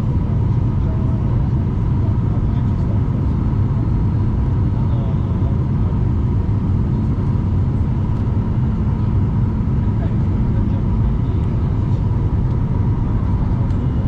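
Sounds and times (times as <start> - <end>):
constant hum: 0.0 - 14.0
jet cabin rumble: 0.0 - 14.0.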